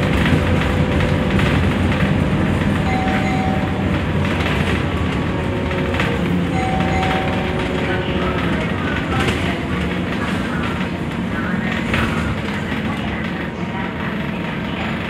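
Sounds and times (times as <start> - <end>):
bus cabin drone: 0.0 - 15.0.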